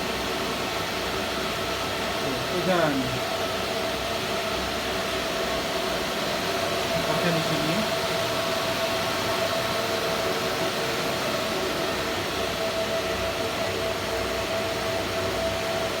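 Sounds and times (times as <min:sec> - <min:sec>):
cooling fans rushing air: 0:00.0 - 0:16.0
fan whine: 0:00.0 - 0:16.0.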